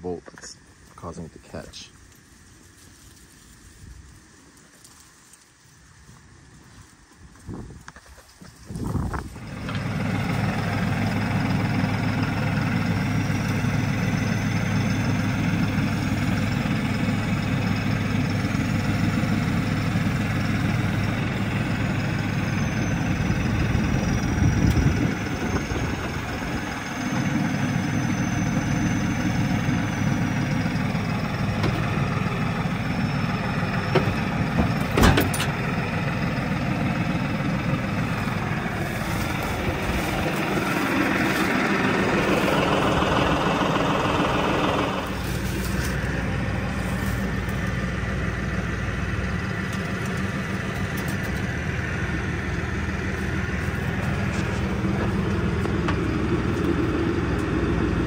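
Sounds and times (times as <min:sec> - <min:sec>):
tractor diesel engine idling: 0:00.0 - 0:07.8, 0:08.6 - 0:58.0.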